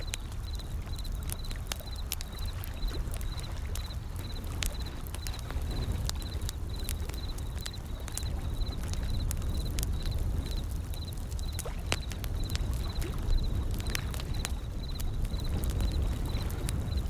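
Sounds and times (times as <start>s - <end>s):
ocean waves rumbling: 0.0s - 17.0s
wood fire crackling: 0.0s - 17.0s.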